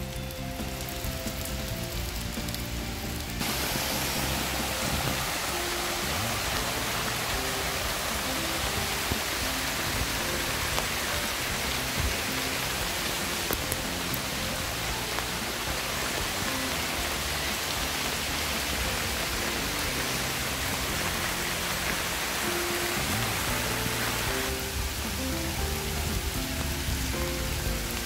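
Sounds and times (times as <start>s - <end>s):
heavy rain on trees and grass: 0.0s - 28.0s.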